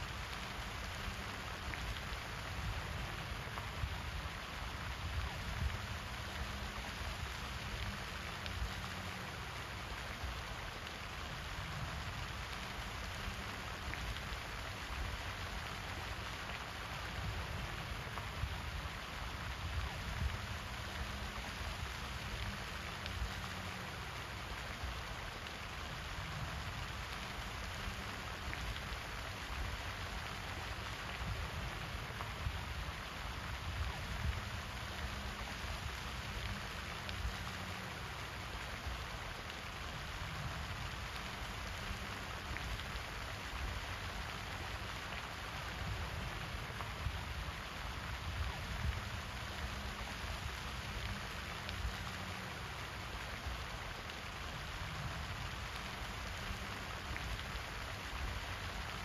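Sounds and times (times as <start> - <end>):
fountain spray splashing: 0.0 - 59.0.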